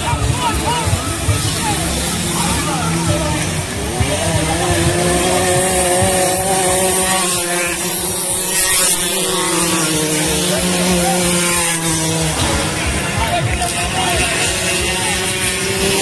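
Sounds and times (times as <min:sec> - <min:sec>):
scooter engines revving high: 0:00.0 - 0:16.0.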